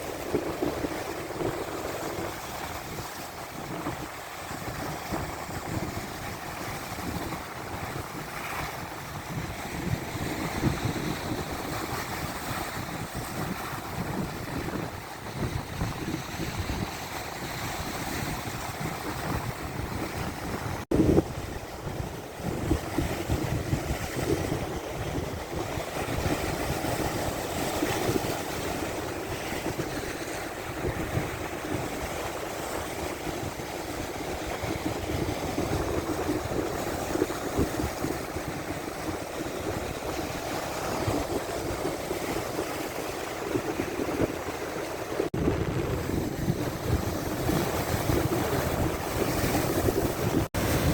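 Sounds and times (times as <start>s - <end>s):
lake waves breaking: 0.0s - 50.9s
wind buffeting microphone: 0.0s - 50.9s.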